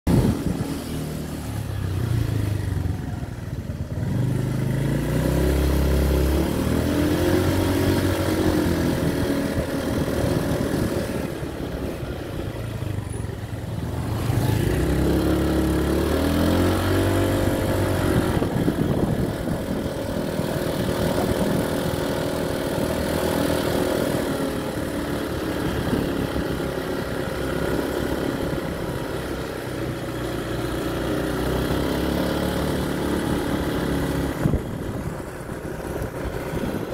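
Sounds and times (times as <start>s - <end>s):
engine revving: 3.9s - 12.1s, 13.8s - 36.9s.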